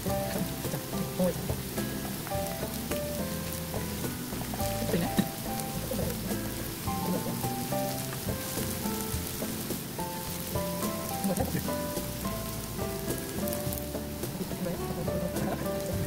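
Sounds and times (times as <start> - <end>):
light background music: 0.0 - 16.0
vegetables sizzling in a frying pan: 0.0 - 16.0.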